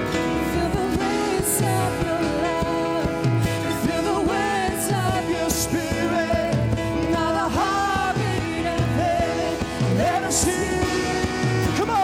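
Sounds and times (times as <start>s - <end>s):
keyboard chords: 0.0s - 12.0s
person singing: 0.0s - 12.0s.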